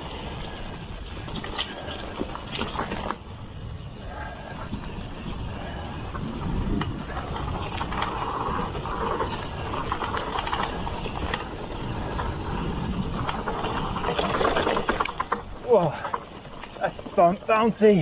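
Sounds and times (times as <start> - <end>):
bike chain rattling and clicking: 0.0 - 18.0
bike tyres rumbling over dirt: 0.0 - 18.0.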